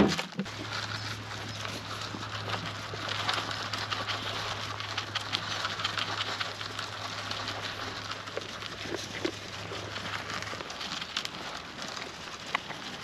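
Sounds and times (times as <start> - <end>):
sheep crunching grain: 0.0 - 13.0.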